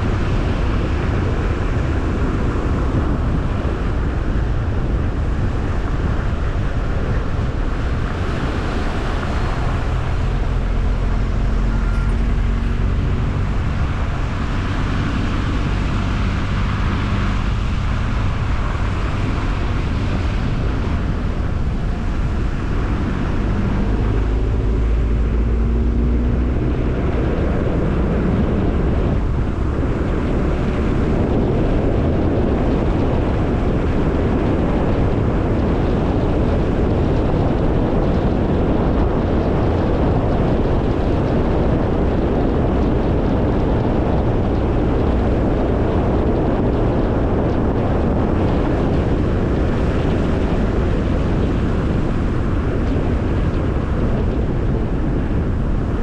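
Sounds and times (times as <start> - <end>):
low engine hum: 0.0 - 56.0.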